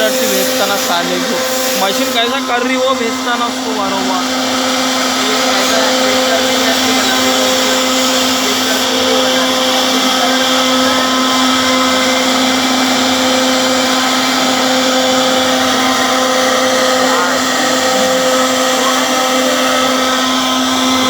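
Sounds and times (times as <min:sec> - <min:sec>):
router motor humming and whining: 0:00.0 - 0:21.0.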